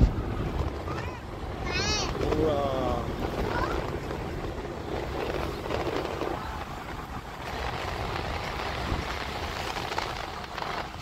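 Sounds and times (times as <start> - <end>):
vehicle rumble and wind rush: 0.0 - 11.0.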